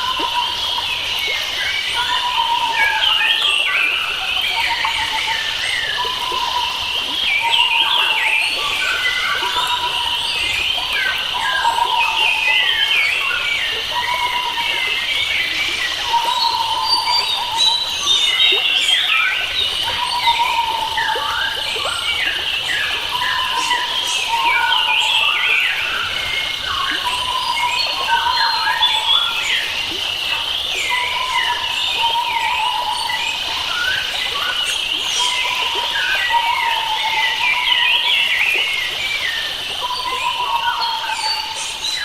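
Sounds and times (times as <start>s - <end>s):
forest birds singing: 0.0s - 42.0s.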